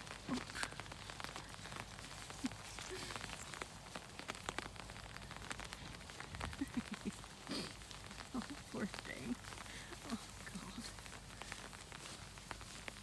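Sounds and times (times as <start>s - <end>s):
raindrops ticking on umbrella: 0.0s - 13.0s
steady rain: 0.0s - 13.0s.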